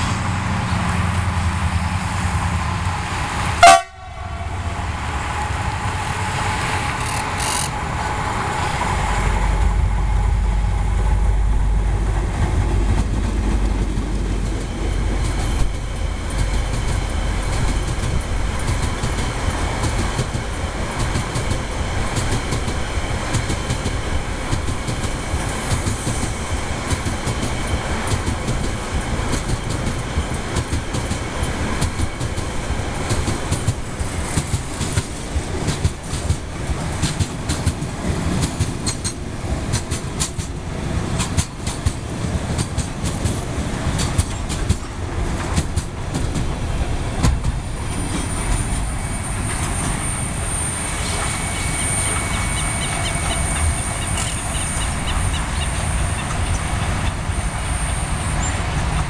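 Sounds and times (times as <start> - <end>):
diesel locomotive rumbling past: 0.0 - 59.0
train wagons clattering over rails: 6.2 - 8.9, 11.6 - 59.0.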